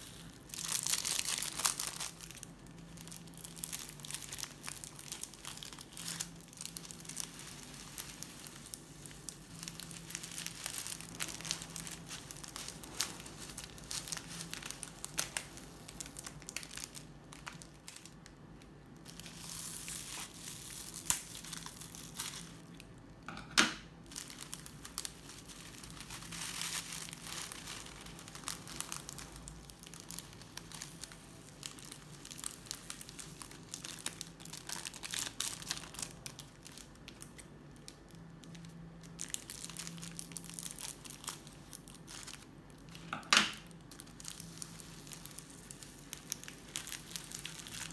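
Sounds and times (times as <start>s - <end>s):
crunchy slime crackling: 0.0s - 47.9s.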